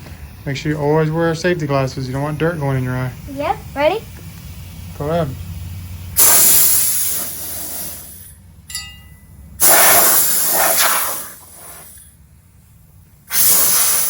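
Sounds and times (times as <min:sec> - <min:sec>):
compressed air blasts: 0:00.0 - 0:08.4, 0:09.6 - 0:12.2, 0:13.2 - 0:14.0.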